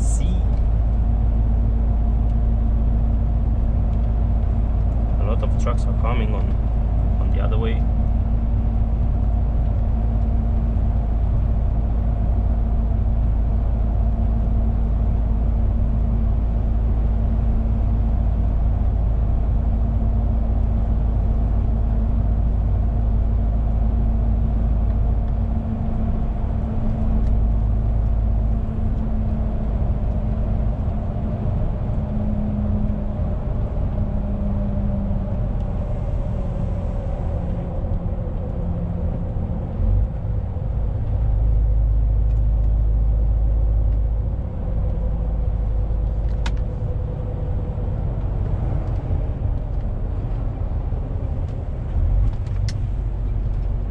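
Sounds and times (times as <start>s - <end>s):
road noise: 0.0s - 53.9s
truck engine drone: 0.0s - 53.9s.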